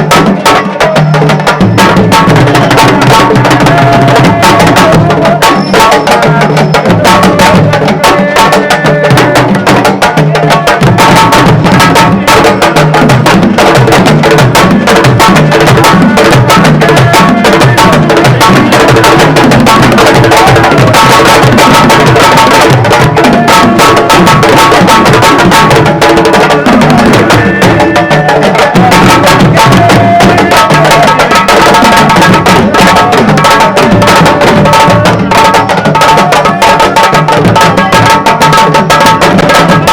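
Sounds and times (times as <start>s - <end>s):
fast dense drumming music: 0.0s - 39.9s.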